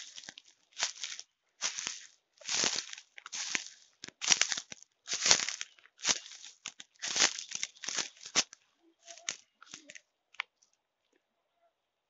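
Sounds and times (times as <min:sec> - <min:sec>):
footsteps crunching on dry twigs: 0:00.0 - 0:10.0.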